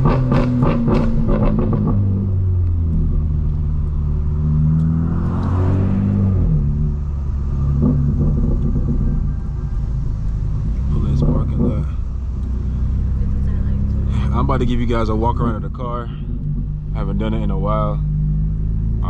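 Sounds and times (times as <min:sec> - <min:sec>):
car exhaust drone: 0:00.0 - 0:19.0.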